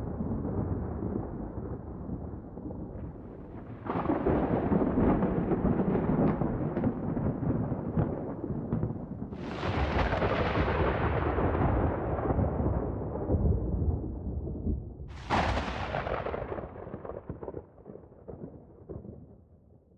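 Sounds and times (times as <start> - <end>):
sharp thunderclap: 0.0 - 19.3
thunder crash and rumbling: 0.0 - 19.4.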